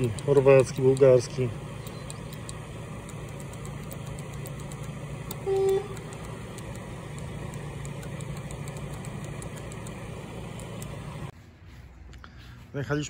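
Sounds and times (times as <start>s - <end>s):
charging station humming: 0.0s - 11.4s.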